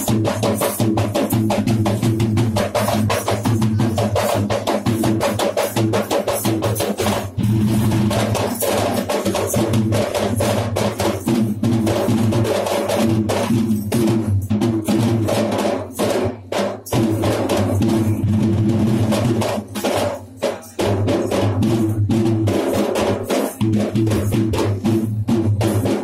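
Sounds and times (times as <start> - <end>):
fast ritual drumming: 0.0 - 26.0.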